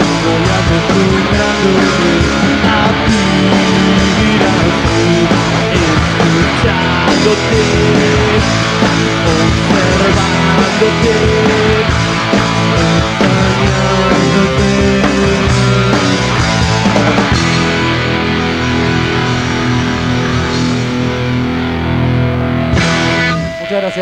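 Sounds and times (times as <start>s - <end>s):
punk rock band playing live: 0.0s - 24.0s.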